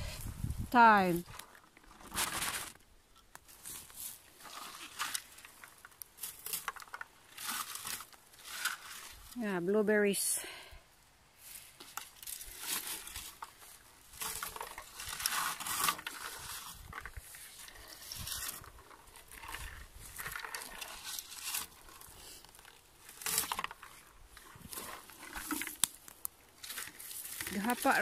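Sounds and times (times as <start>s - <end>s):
leaves and twigs rustling: 0.0s - 28.0s.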